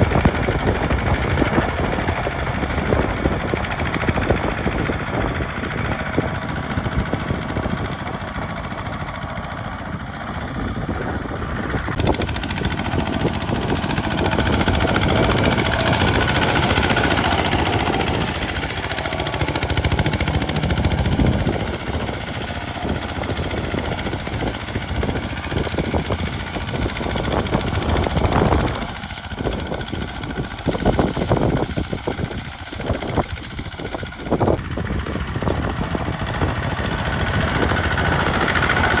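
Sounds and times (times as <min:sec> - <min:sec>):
diesel engine chugging: 0:00.0 - 0:39.0
rapid engine knocking: 0:00.0 - 0:39.0.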